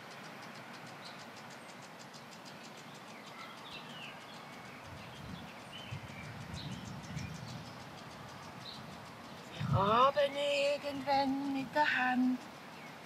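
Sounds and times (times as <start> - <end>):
background hiss: 0.0 - 13.0
faint bird chirps: 0.0 - 13.0.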